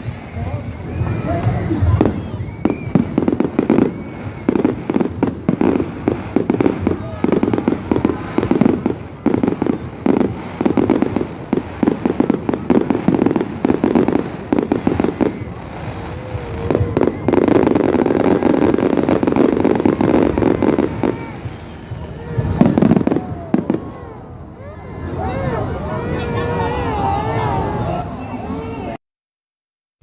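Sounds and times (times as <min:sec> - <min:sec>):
fireworks banging and crackling: 0:00.0 - 0:27.8.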